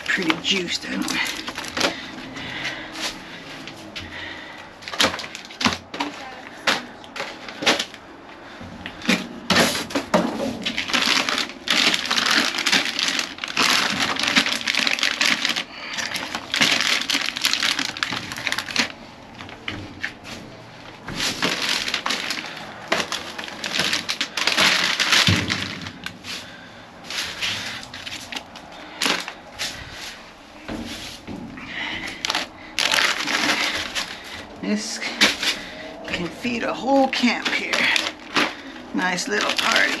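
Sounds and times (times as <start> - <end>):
plastic packaging crinkling: 0.0 - 8.1, 8.9 - 30.2, 30.9 - 40.0
crunching: 0.0 - 40.0.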